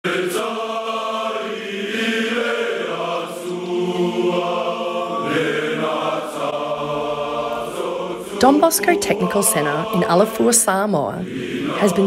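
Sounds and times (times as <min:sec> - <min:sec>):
choir singing a slow chant: 0:00.0 - 0:12.0.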